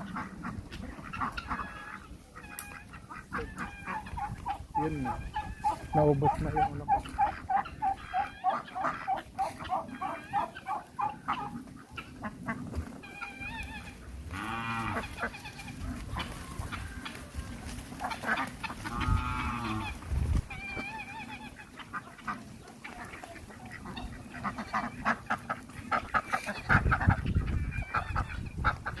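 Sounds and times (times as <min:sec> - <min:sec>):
poultry calling: 0:00.0 - 0:29.0.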